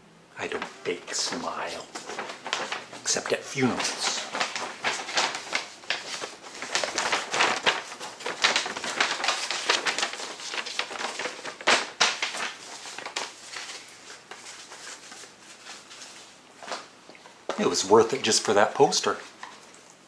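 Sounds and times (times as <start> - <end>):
paper packaging rustling: 0.4 - 16.9.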